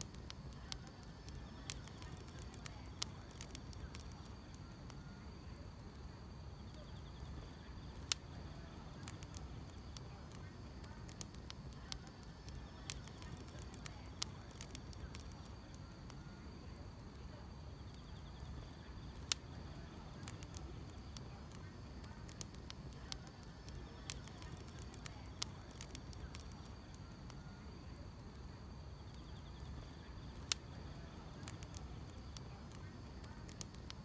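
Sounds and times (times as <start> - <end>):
crickets chirping: 0.0 - 34.0
firewood crackling and popping: 0.0 - 34.0.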